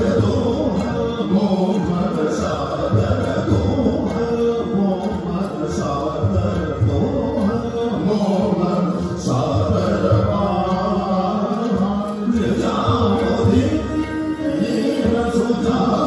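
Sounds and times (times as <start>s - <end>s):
chant-like singing voice: 0.0s - 16.0s.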